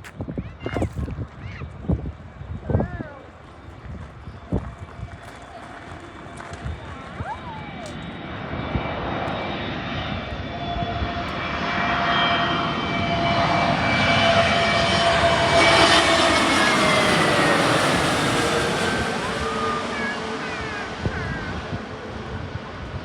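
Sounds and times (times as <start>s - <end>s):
jet airliner passing: 0.2s - 23.0s.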